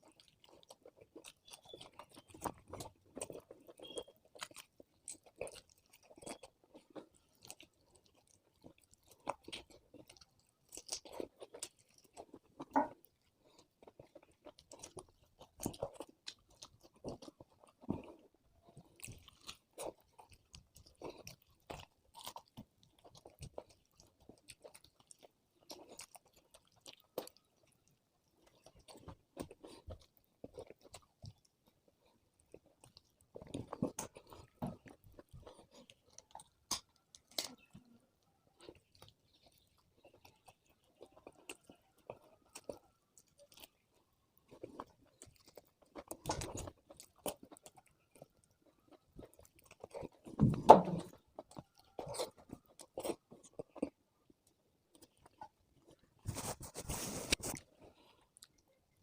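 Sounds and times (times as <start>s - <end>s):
food crunching: 0.0s - 59.0s
person chewing food: 0.0s - 59.0s.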